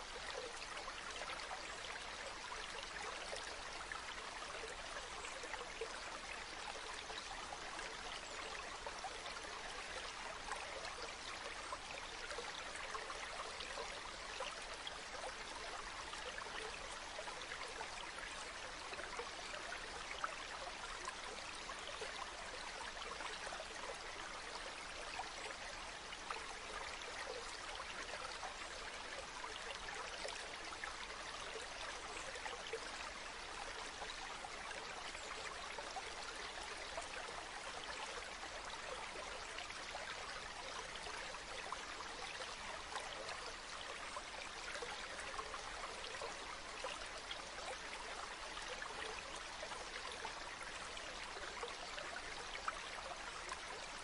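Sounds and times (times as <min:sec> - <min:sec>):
stream trickling over pebbles: 0:00.0 - 0:54.0.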